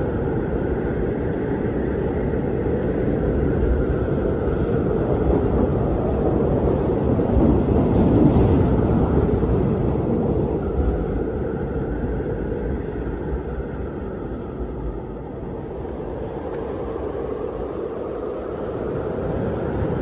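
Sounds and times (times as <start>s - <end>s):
strong wind howling: 0.0s - 20.0s.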